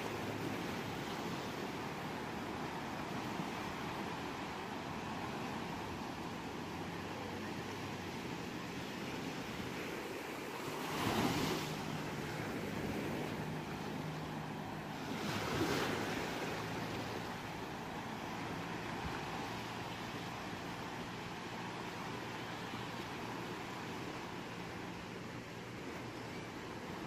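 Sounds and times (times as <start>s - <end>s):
ocean waves on shore: 0.0s - 27.0s.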